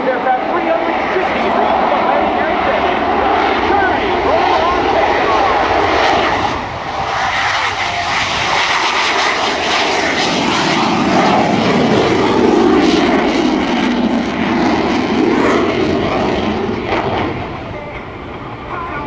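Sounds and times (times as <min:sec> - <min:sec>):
jet roar at takeoff: 0:00.0 - 0:19.0.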